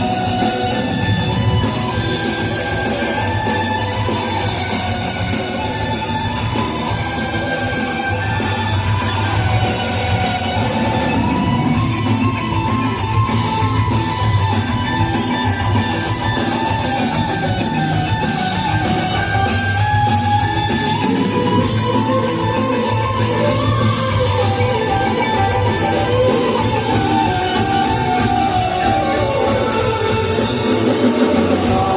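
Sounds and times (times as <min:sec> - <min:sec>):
rock band playing: 0:00.0 - 0:31.9.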